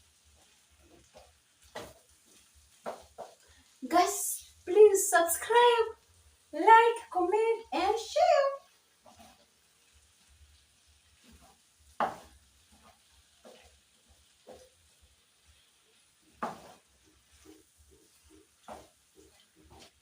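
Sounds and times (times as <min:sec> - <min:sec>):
faint sizzle: 0:00.0 - 0:20.0.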